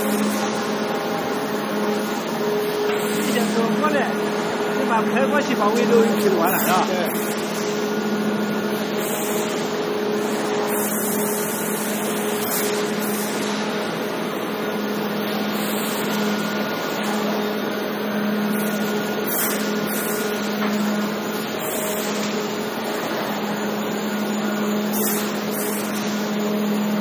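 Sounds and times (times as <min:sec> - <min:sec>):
motor and hydraulic pump humming: 0:00.0 - 0:27.0.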